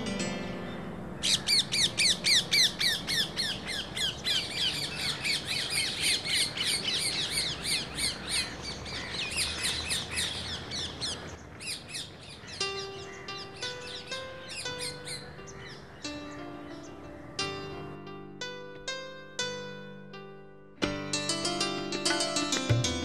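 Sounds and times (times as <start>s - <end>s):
birds calling descending notes: 0.0s - 23.0s.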